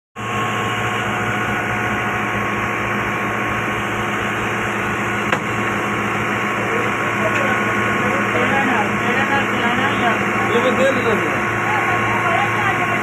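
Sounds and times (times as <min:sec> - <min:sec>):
diesel engine thudding: 0:00.2 - 0:13.0.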